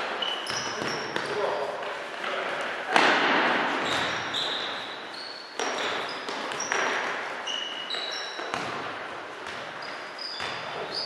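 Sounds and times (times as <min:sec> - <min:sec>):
sports shoes squeaking: 0:00.0 - 0:02.0, 0:03.7 - 0:11.0.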